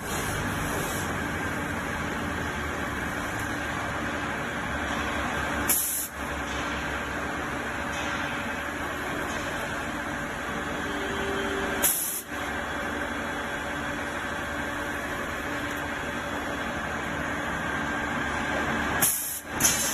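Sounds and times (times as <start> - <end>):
drilling machine running: 0.0 - 19.9.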